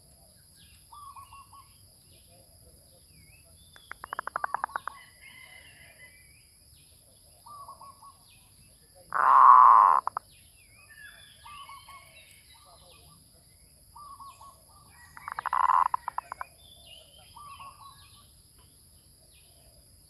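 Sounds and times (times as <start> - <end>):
faint bird chirps: 0.2 - 20.0.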